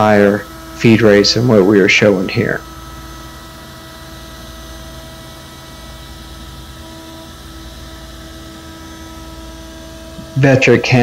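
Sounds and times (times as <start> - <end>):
router spindle whine: 0.0 - 11.0.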